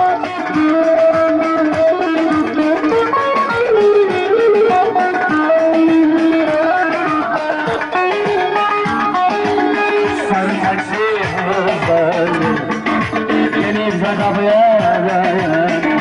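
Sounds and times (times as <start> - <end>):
plucked string folk melody: 0.0 - 16.0
steady beat: 0.0 - 16.0.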